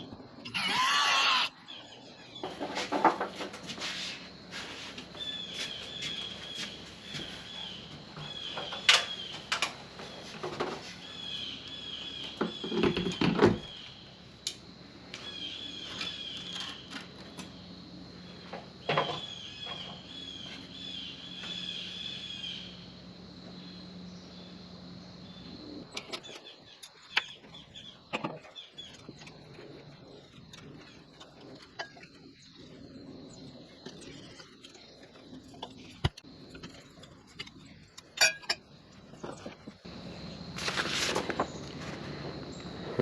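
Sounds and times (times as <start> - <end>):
birds chirping: 0.0 - 38.2.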